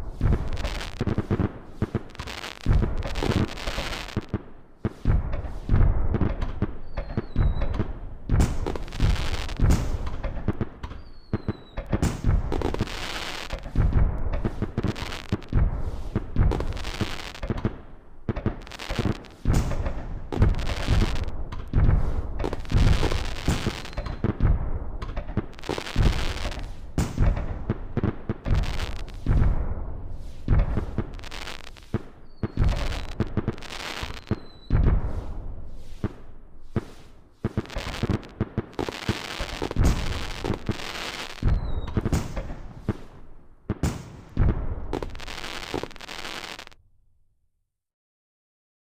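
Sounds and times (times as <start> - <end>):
firework shells booming: 0.0 - 46.8
hissing crackle: 0.0 - 46.8.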